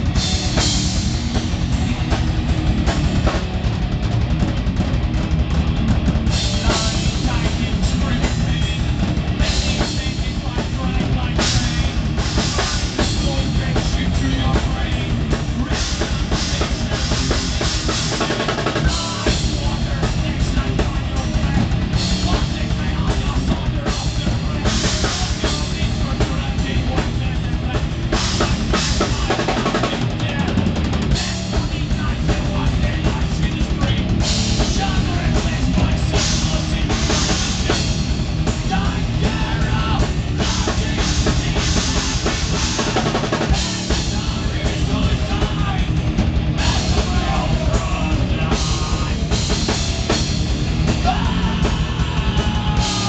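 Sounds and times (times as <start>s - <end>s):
bass drum: 0.0s - 53.0s
heavy metal band playing: 0.0s - 53.0s.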